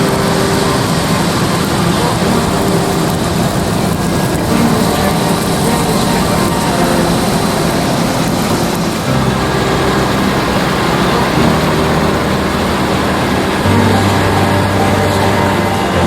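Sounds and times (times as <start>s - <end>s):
combine harvester engine humming: 0.0s - 16.0s.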